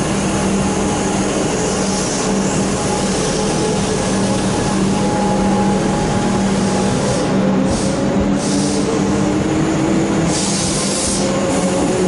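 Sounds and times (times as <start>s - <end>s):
electric train hum: 0.0s - 12.0s.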